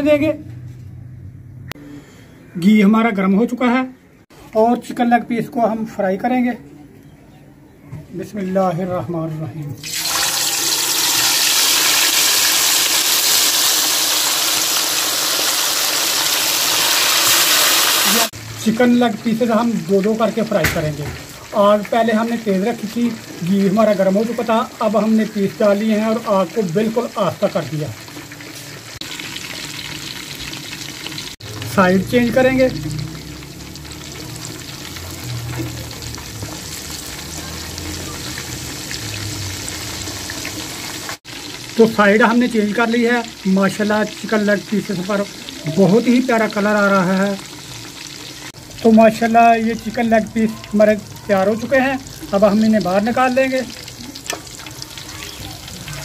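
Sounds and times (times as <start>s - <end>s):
chicken sizzling in hot fat: 9.8s - 56.0s.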